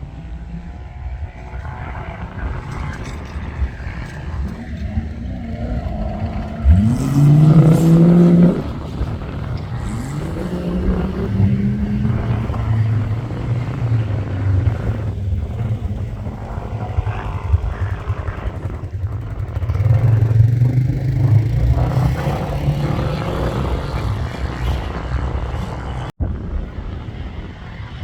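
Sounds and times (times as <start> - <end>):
off-road vehicle engine running hard: 0.0 - 28.0.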